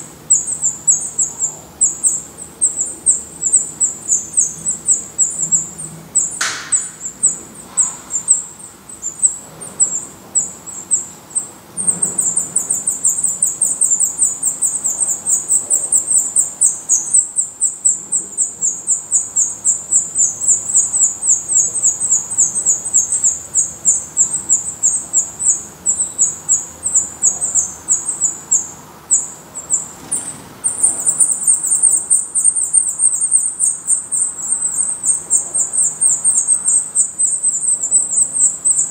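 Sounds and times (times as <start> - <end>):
nestlings begging calls: 0.0 - 38.9.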